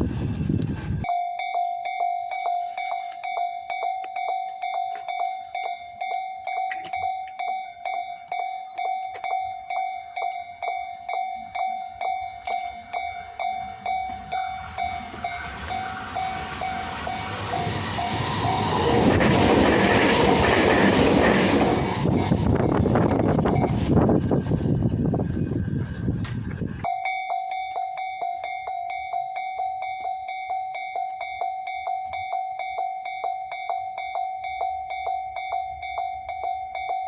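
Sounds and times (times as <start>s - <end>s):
train passing: 0.0s - 37.0s
level-crossing warning bell dinging: 0.9s - 24.8s, 26.7s - 37.0s.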